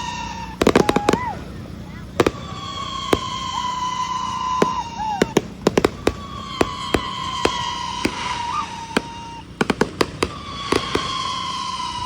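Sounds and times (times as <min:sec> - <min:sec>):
firework whistle: 0:00.0 - 0:12.0
fireworks banging: 0:00.0 - 0:12.0.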